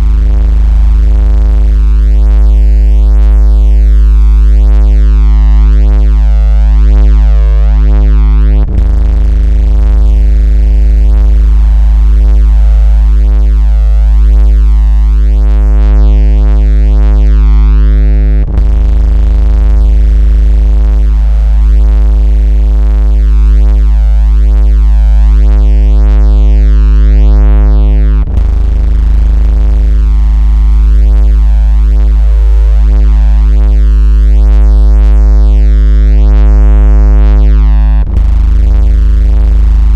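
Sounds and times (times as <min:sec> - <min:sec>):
synthesized bass tone: 0:00.0 - 0:39.9.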